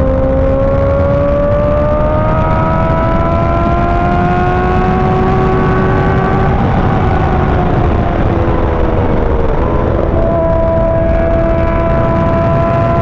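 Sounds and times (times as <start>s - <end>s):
low wind rush: 0.0s - 13.0s
motorcycle engine accelerating: 0.0s - 13.0s.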